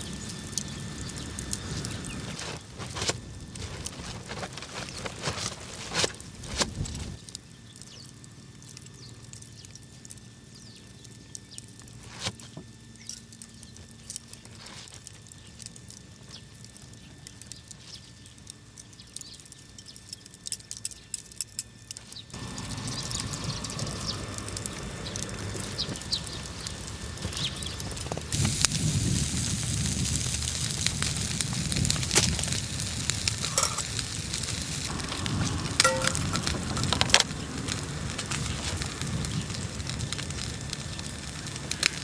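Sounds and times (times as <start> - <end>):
small fire crackling: 0.0 - 42.0.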